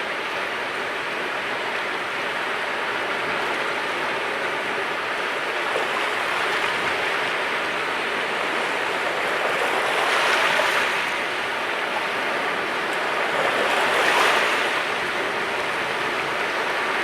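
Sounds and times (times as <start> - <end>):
sea waves washing onto shore: 0.2 - 17.0.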